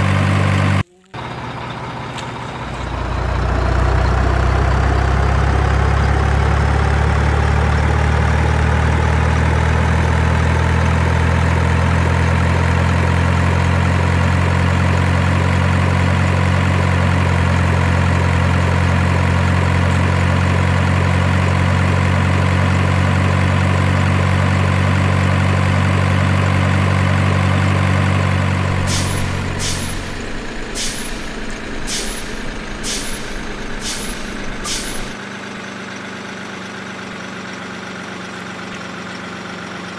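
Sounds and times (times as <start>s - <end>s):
heavy truck engine rumbling: 0.0s - 39.9s.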